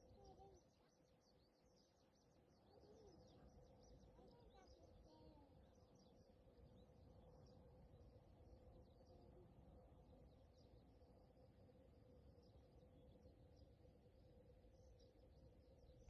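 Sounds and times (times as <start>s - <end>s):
faint hum: 0.0s - 16.0s
small birds chirping: 0.0s - 16.0s.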